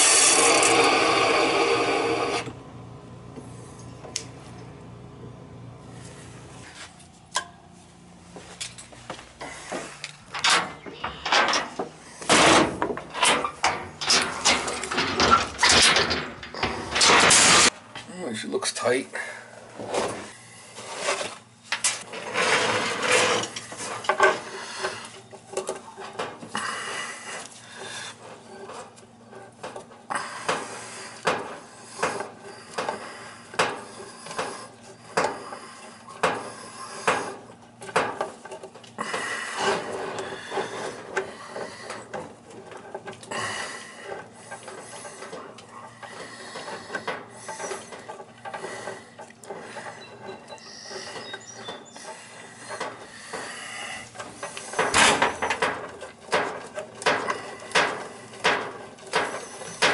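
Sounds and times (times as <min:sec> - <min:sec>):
metal and plastic scraping: 0:00.0 - 0:02.6, 0:09.7 - 0:17.8, 0:19.8 - 0:26.5, 0:27.3 - 0:59.9.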